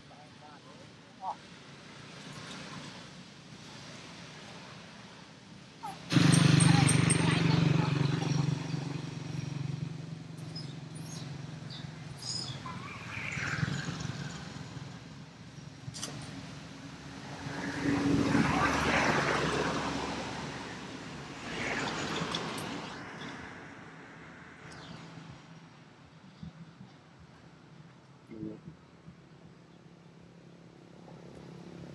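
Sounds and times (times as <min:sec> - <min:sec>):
motor vehicles passing: 0:00.0 - 0:31.9.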